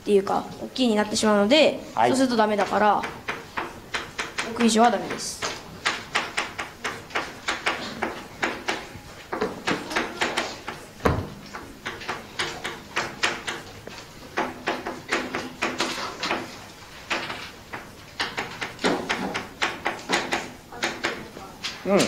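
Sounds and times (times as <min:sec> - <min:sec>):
chalk tapping and scraping on blackboard: 0:02.2 - 0:21.8.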